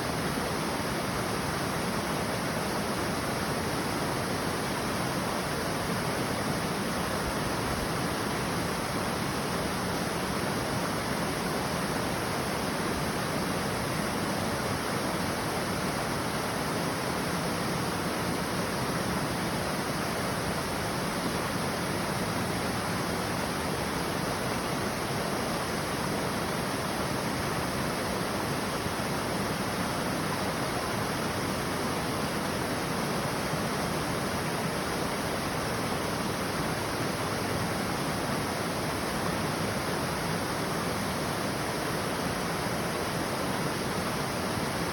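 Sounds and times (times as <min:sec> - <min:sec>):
waterfall roaring: 0:00.0 - 0:44.9.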